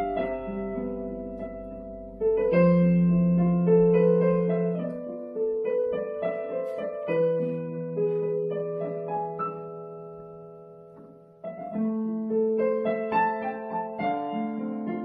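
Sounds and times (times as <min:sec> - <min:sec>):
digital piano chords and melody: 0:00.0 - 0:15.0.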